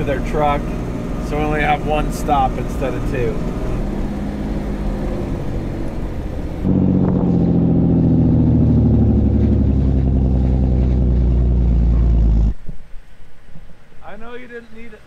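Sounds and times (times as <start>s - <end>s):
vehicle engine running: 0.0s - 12.6s.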